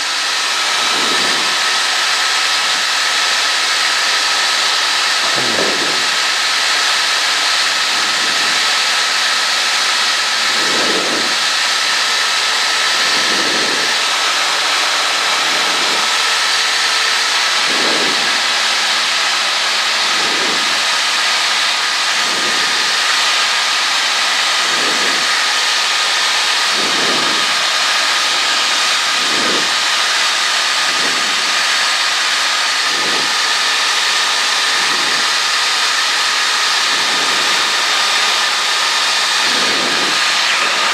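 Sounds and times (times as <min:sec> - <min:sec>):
light aircraft engine drone: 0:00.0 - 0:36.1.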